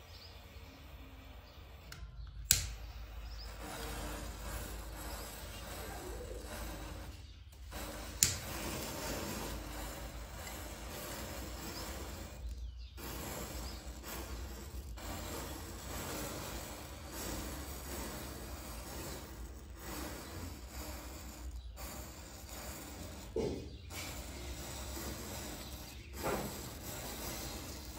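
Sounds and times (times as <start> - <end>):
matches fizzing alight: 0.6 - 27.9.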